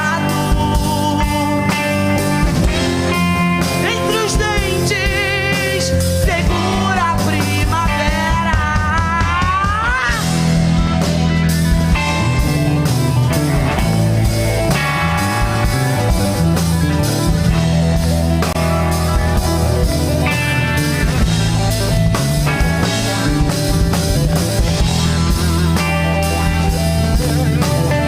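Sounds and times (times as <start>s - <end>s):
bass guitar: 0.0s - 28.0s
drum kit: 0.0s - 28.0s
electric guitars: 0.0s - 28.0s.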